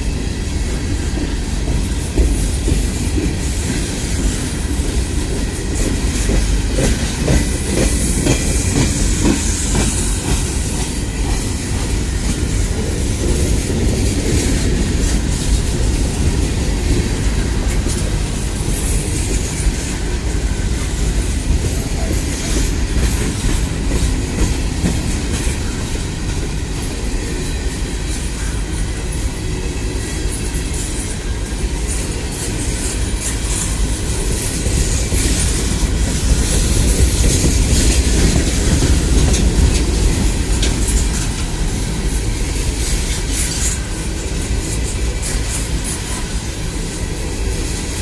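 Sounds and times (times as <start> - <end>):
train wheels clattering on rails: 0.0 - 48.0.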